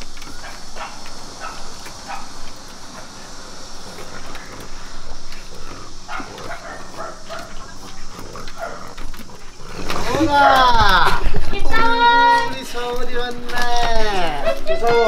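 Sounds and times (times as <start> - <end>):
dogs yelping and whining: 0.0 - 12.4.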